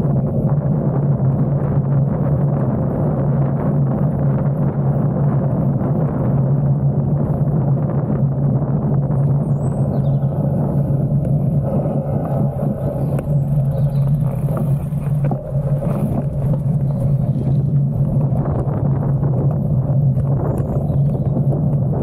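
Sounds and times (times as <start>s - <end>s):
bike tyres rolling: 0.0s - 22.0s
wind buffeting microphone: 0.0s - 22.0s.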